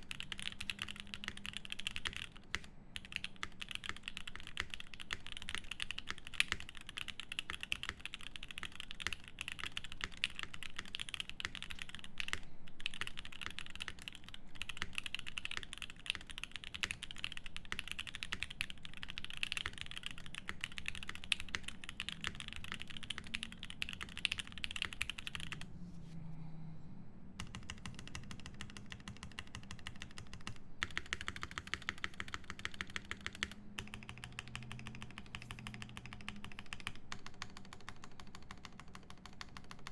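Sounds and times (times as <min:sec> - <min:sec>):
fast typing on mechanical keyboard: 0:00.0 - 0:25.7, 0:27.4 - 0:39.9.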